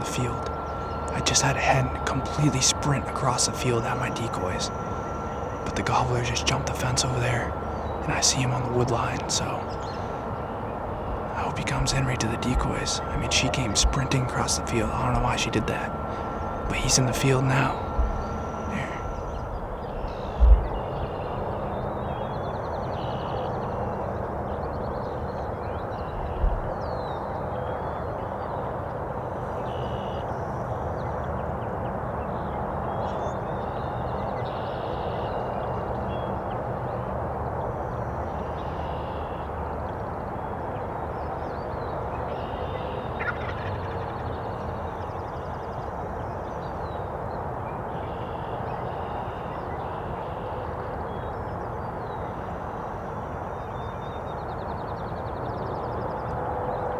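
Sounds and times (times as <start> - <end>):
steady background hiss: 0.0 - 56.9.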